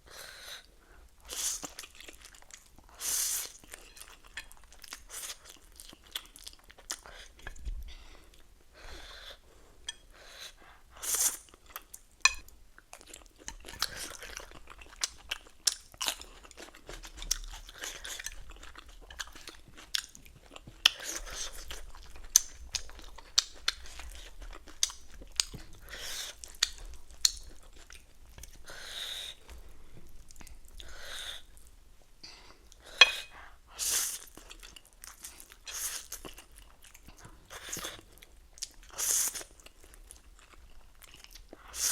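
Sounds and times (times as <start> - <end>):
person chewing and crunching food: 1.2 - 8.5, 11.0 - 31.8, 32.5 - 41.9.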